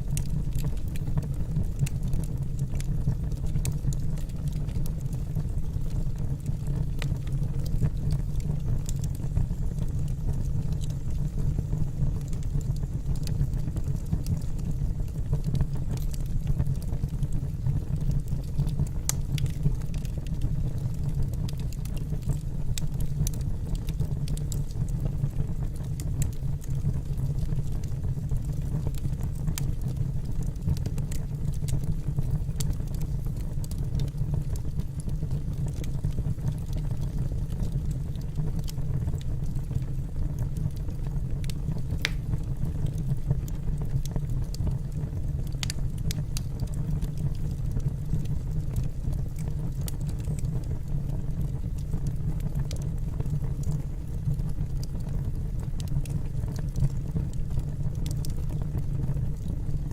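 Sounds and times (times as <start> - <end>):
burning logs crackling and popping: 0.0 - 59.9
fire flames rumbling: 0.0 - 59.9.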